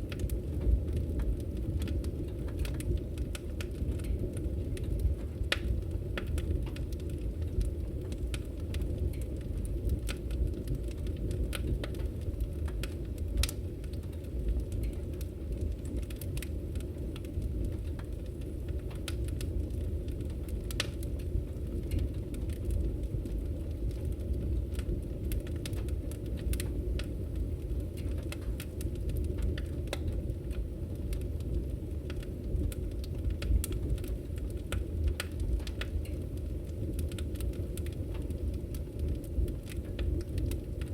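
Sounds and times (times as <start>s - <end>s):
firewood crackling: 0.0s - 40.9s
low rumble of fire: 0.0s - 40.9s.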